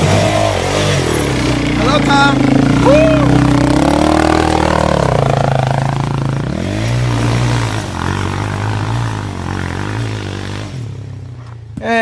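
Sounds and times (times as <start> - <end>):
dirt bike engine revving: 0.0 - 11.4.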